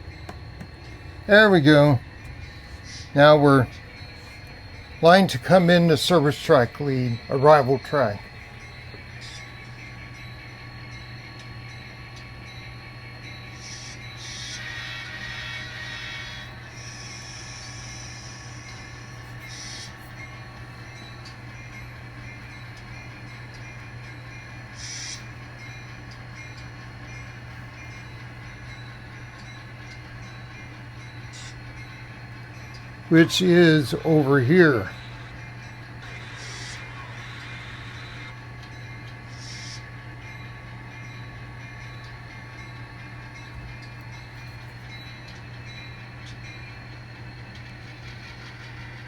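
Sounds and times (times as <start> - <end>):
model train humming: 0.0 - 49.0.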